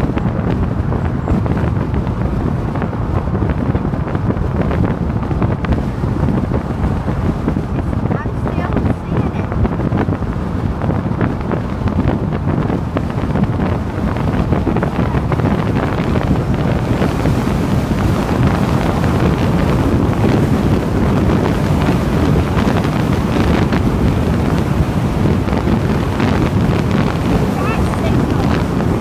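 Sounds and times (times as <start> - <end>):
wind blowing across microphone: 0.0 - 29.0.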